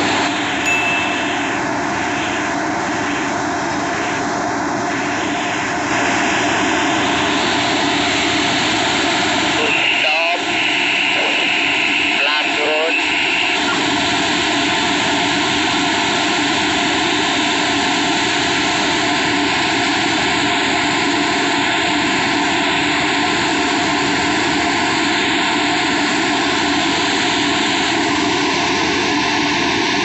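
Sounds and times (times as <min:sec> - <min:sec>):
heavy construction machinery roar: 0:00.0 - 0:30.0.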